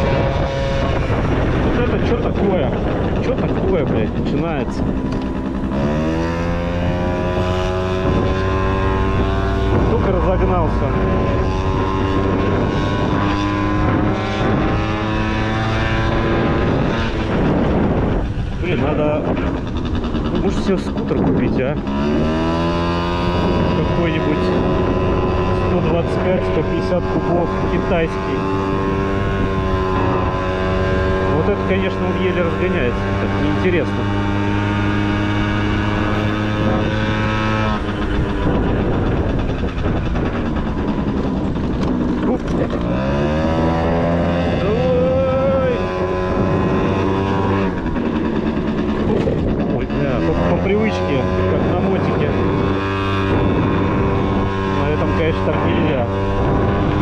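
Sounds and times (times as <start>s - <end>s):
moped engine running: 0.0s - 57.0s
wind rumble on microphone: 0.0s - 57.0s.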